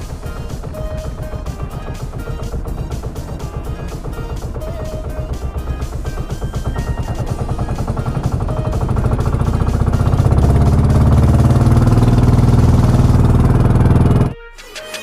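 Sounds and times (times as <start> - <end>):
boat engine running: 0.0 - 14.4.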